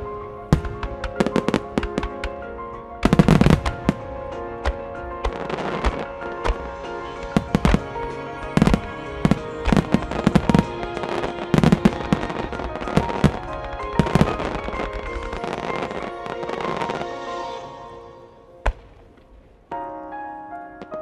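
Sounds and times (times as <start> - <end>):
fireworks bursting with sharp bangs: 0.0 - 17.6
music with held tones: 0.0 - 21.0.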